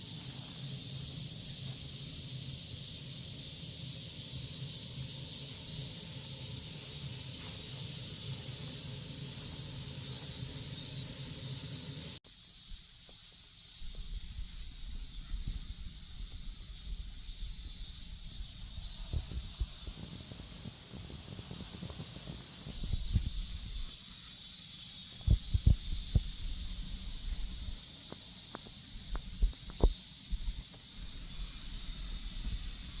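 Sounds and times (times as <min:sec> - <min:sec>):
cicadas buzzing: 0:00.0 - 0:33.0.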